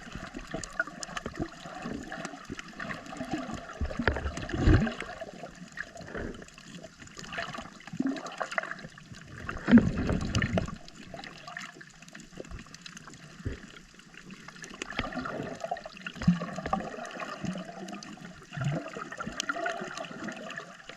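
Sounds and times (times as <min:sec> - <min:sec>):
underwater water swirling and gurgling: 0:00.0 - 0:20.9.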